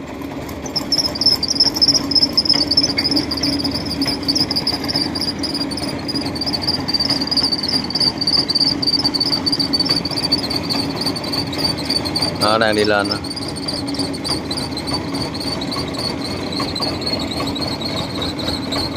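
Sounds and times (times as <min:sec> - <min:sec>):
tracked carrier engine under load: 0:00.0 - 0:18.9
high-pitched whine: 0:00.7 - 0:18.9.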